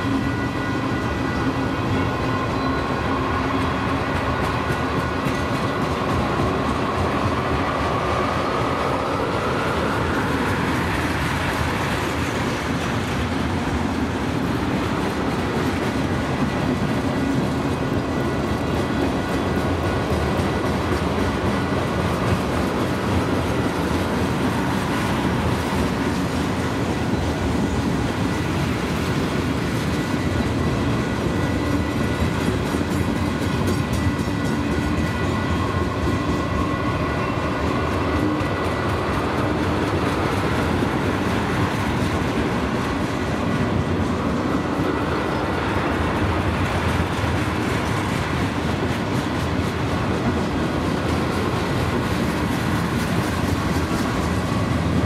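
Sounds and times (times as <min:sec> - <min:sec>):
clickety-clack over rail joints: 0:00.0 - 0:55.0
train wheels on rails: 0:00.0 - 0:55.0.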